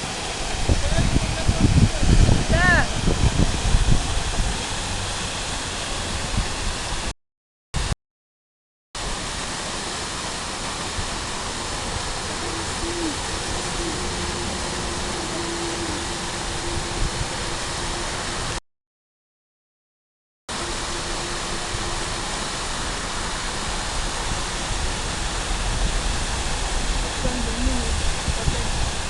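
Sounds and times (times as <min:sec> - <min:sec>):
waterfall roaring: 0:00.0 - 0:07.1, 0:09.0 - 0:18.6, 0:20.5 - 0:29.0.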